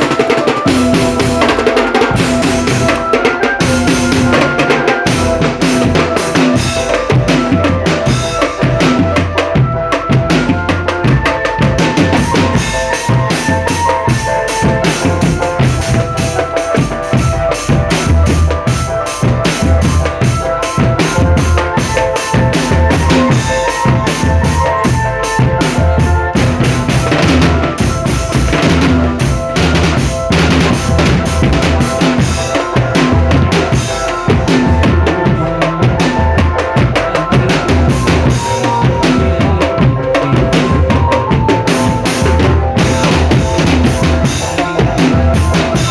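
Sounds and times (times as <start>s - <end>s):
bass drums: 0.0s - 45.9s
melody of held notes: 0.0s - 45.9s
snare drums with rimshots: 0.0s - 45.9s.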